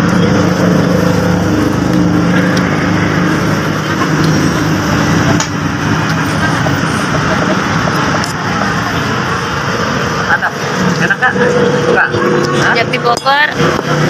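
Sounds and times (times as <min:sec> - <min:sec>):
road traffic noise: 0:00.0 - 0:14.0
vehicle engines running: 0:00.0 - 0:14.0.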